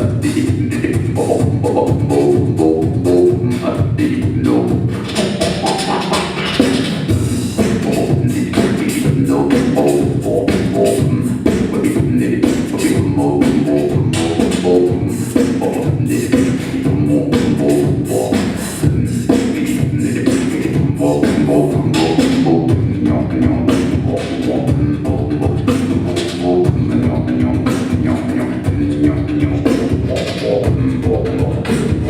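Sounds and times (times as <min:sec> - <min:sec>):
beatboxing percussive hits: 0:00.0 - 0:32.0
sustained vocal tones: 0:00.0 - 0:32.0.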